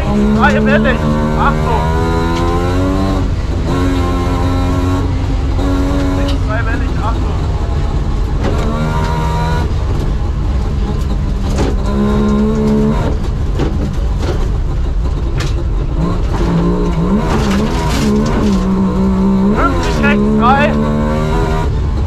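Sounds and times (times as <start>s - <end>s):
car knocking over bumps: 0.0s - 22.0s
road rumble: 0.0s - 22.0s
two-stroke car engine revving: 0.0s - 22.0s.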